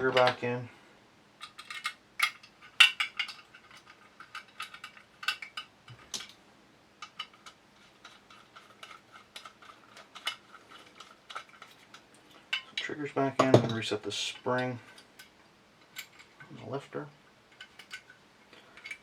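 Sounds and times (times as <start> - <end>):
metal gun parts clicking: 1.4 - 6.4, 7.0 - 16.7, 17.5 - 19.0.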